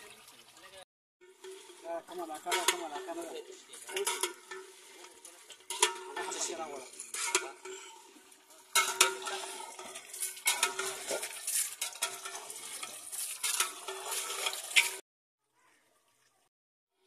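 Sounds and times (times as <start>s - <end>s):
frying hiss: 0.0s - 15.0s
metal rod scraping and clinking on pot: 1.2s - 15.0s.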